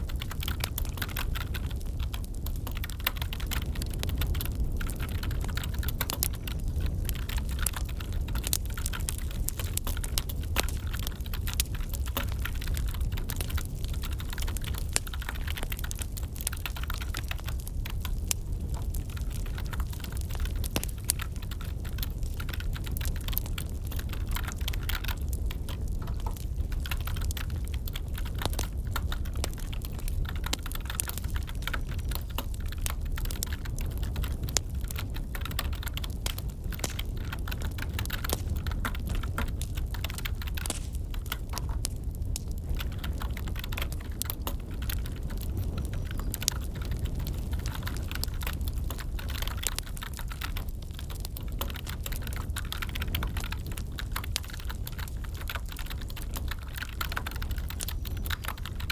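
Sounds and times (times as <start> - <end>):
computer keyboard typing: 0.0 - 58.9
crackling wood fire: 0.0 - 58.9.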